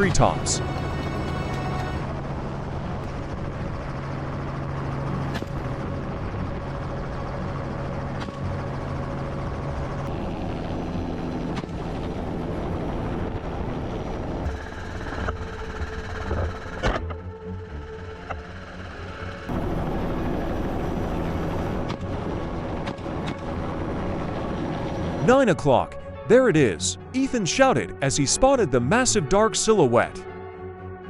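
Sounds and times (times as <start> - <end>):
helicopter rotor and engine: 0.0 - 26.2.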